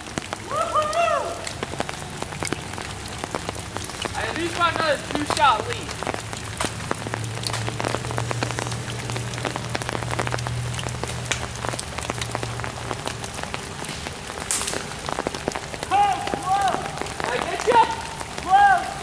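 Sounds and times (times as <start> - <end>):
rain pattering on leaves: 0.0 - 19.0.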